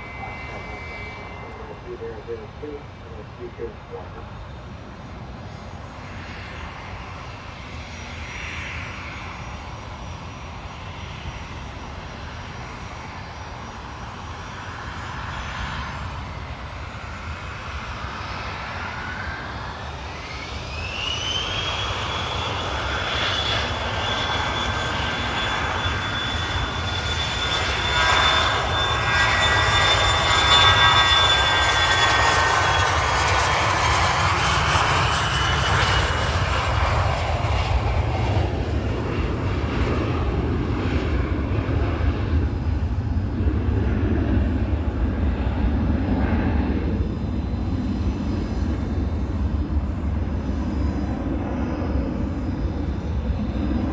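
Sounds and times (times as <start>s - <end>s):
aircraft turbine engines whining: 0.0s - 53.9s.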